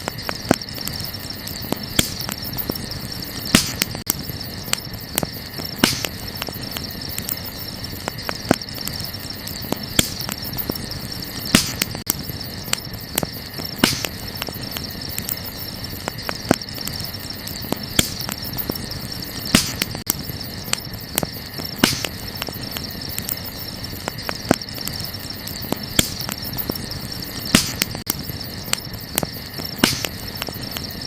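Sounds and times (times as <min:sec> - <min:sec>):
campfire crackling and popping: 0:00.0 - 0:31.0
night insects trilling: 0:00.0 - 0:31.0.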